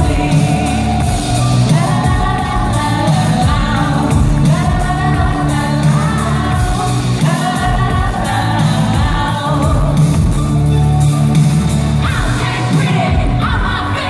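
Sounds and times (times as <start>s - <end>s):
person singing into microphone: 0.0s - 10.4s, 12.0s - 14.0s
amplified pop backing track: 0.0s - 14.0s.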